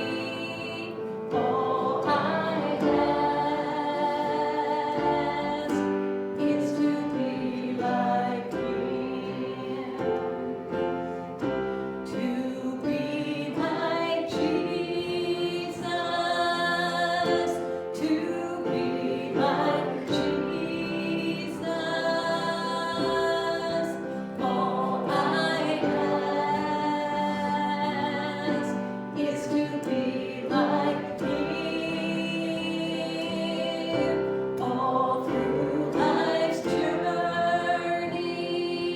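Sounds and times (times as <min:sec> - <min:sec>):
group singing a hymn: 0:00.0 - 0:38.9.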